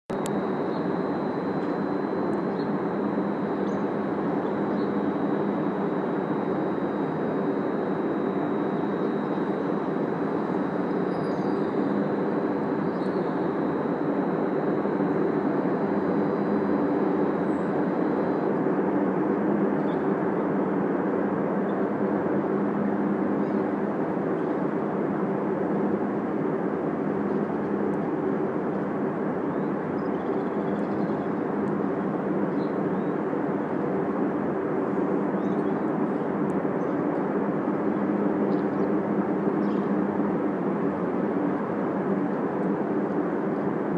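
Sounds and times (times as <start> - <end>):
distant aircraft engine roar: 0.1 - 43.9.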